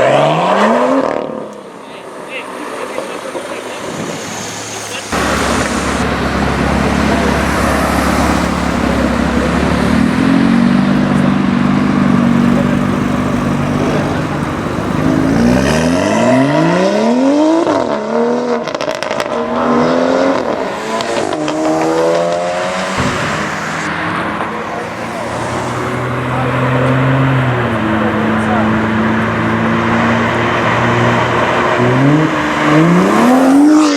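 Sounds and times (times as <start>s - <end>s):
car engine accelerating: 0.0s - 33.9s
exhaust cracks: 1.3s - 17.1s, 20.6s - 33.9s.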